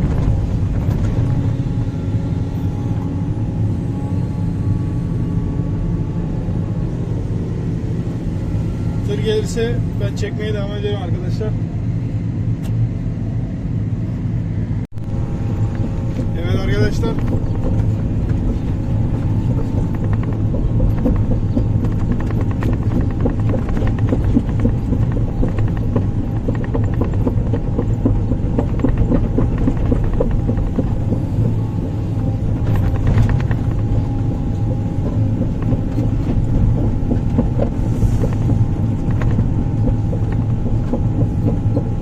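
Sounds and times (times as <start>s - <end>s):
excavator diesel engine rumble: 0.0s - 12.6s, 13.2s - 42.0s
steady whine: 0.0s - 42.0s.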